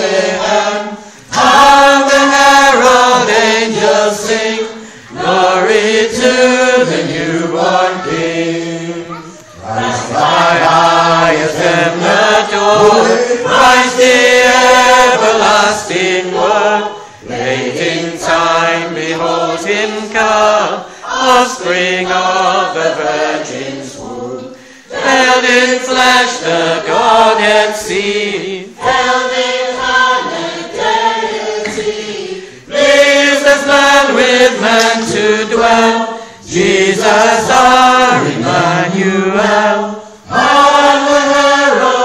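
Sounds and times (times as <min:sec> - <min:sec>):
congregation singing: 0:00.0 - 0:42.0.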